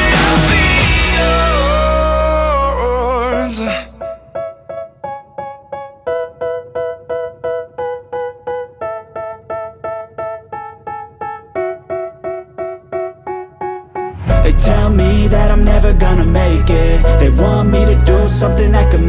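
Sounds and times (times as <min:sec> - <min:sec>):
keyboard melody: 0:00.0 - 0:19.0.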